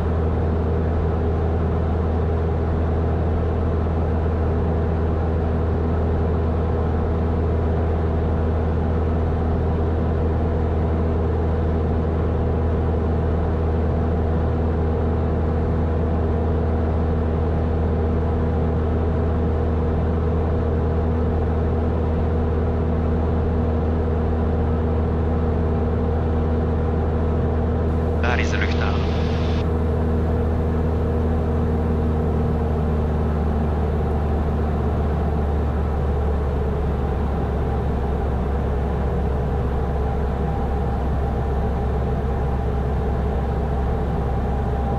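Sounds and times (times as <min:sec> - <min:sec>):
aircraft engine and propeller droning: 0:00.0 - 0:44.9.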